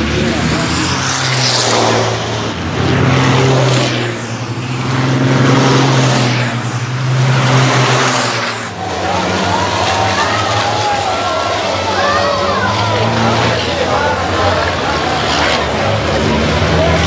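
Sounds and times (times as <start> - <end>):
truck engines droning: 0.0 - 17.0.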